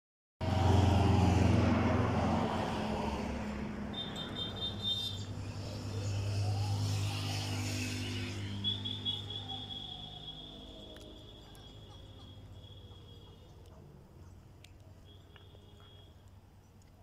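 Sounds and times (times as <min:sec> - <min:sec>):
truck engine passing: 0:00.4 - 0:14.9
vehicle engine hum: 0:00.4 - 0:17.0.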